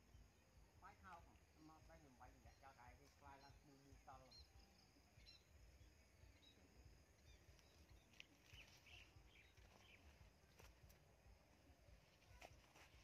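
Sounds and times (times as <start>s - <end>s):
faint bird chirps: 0.0s - 11.0s
faint low rumble: 0.0s - 13.0s.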